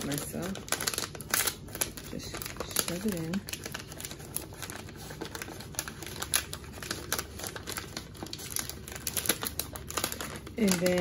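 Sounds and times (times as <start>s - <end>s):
paper and plastic pouch crinkling: 0.0s - 11.0s.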